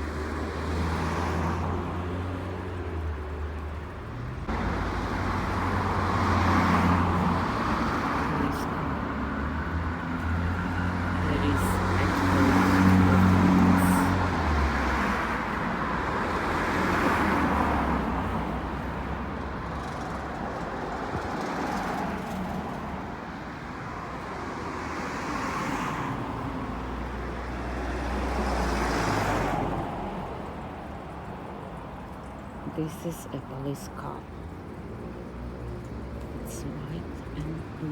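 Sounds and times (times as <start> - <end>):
vehicles passing: 0.0 - 37.9.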